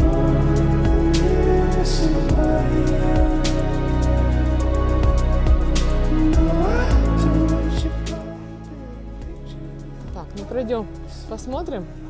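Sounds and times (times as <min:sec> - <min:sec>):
background music held notes: 0:00.0 - 0:12.0.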